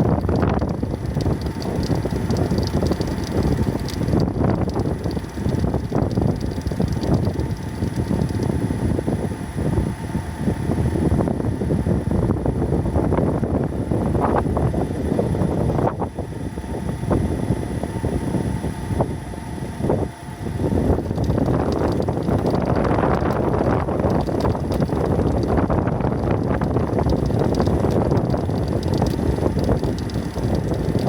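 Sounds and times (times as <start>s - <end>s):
engine room rumbling: 0.0s - 31.0s.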